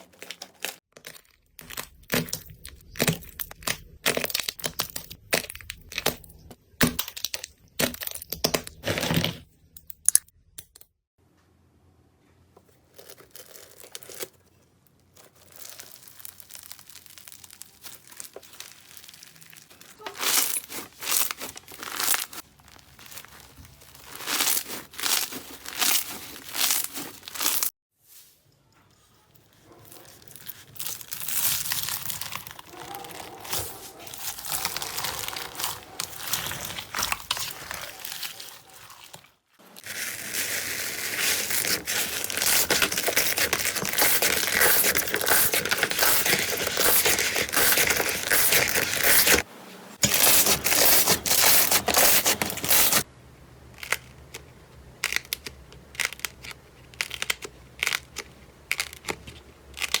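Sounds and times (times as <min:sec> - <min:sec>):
slime crackling and crinkling: 0:00.0 - 0:09.3, 0:12.6 - 0:27.7, 0:29.4 - 1:00.0.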